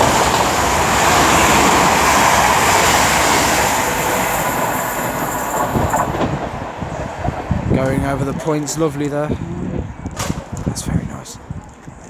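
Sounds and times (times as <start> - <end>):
electric train passing: 0.0 - 11.4.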